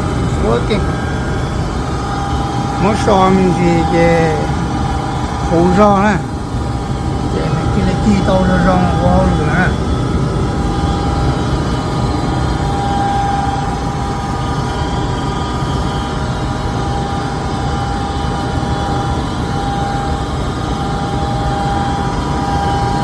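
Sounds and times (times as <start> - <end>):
furnace whine: 0.0 - 23.0
gas furnace burners rushing: 0.0 - 23.0.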